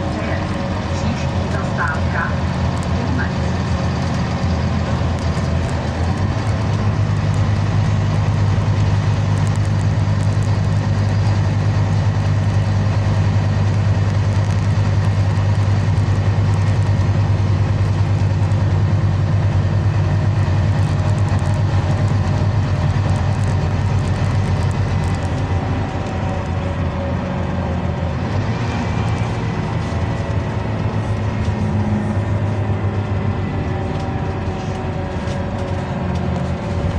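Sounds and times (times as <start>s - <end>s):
bus engine drone: 0.0s - 36.9s
road and tyre noise: 0.0s - 36.9s.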